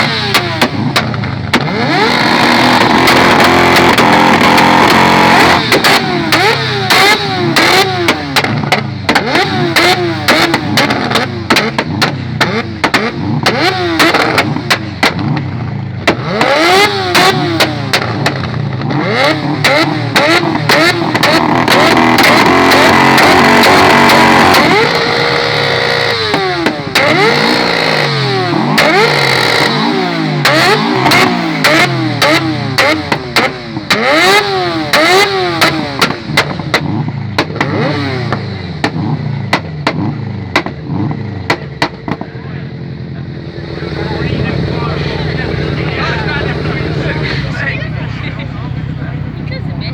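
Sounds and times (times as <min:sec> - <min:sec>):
exhaust cracks and pops: 0:00.0 - 0:42.5
performance engine revving: 0:00.0 - 0:49.9.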